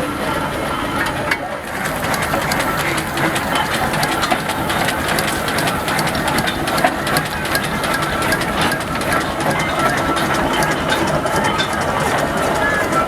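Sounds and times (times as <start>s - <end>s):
steam engine mechanical clatter: 0.0s - 13.0s
steam hissing: 0.0s - 13.0s.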